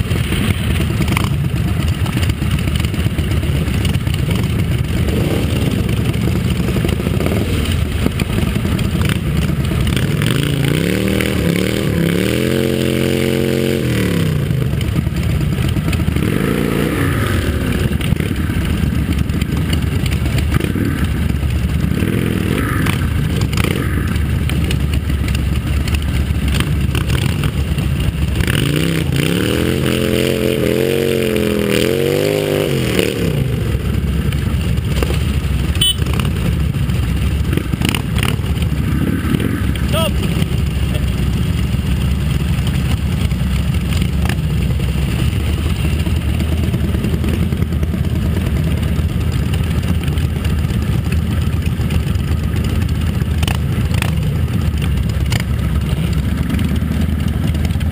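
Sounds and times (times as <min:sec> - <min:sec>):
motorcycle engine revving: 0:00.0 - 0:57.9
motorcycle engines running: 0:00.0 - 0:57.9.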